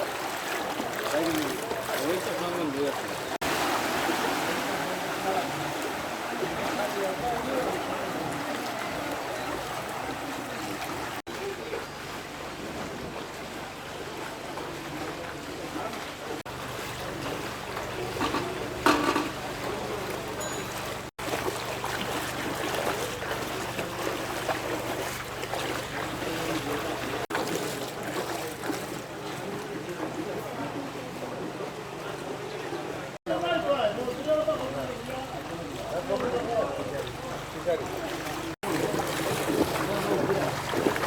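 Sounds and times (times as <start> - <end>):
water sounds: 0.0 - 41.0.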